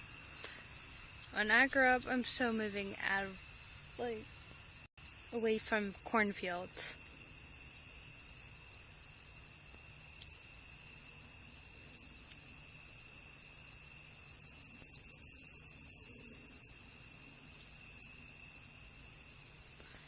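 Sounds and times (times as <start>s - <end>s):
crickets chorusing: 0.0s - 20.0s.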